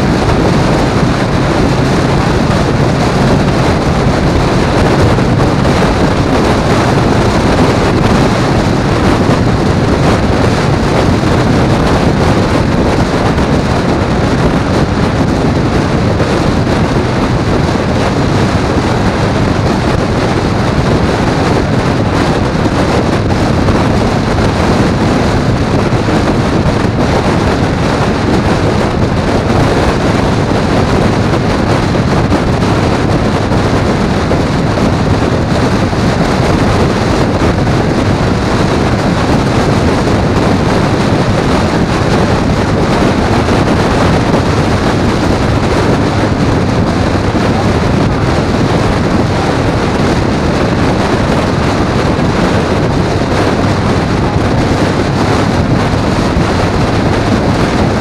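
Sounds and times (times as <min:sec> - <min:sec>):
road noise: 0:00.0 - 0:58.0
vehicle engine: 0:00.0 - 0:58.0
wind noise over microphone: 0:00.0 - 0:58.0.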